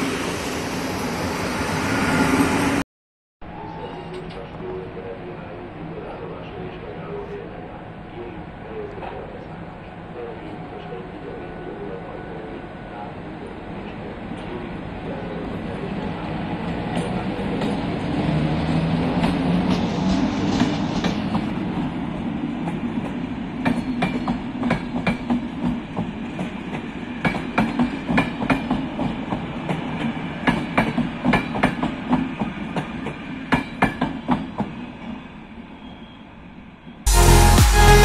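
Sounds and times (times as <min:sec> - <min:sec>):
train passing rumble: 0:00.0 - 0:02.8, 0:03.4 - 0:35.7.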